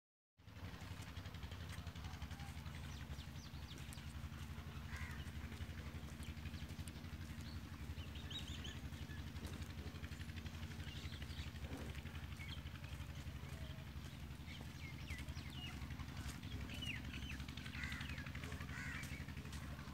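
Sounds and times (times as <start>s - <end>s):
steady low rumble: 0.5s - 19.9s
small birds chirping: 0.9s - 19.9s.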